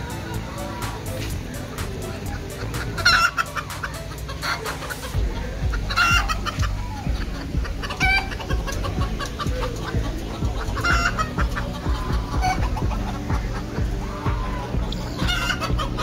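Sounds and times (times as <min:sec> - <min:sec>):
fowl clucking: 0:00.0 - 0:16.0.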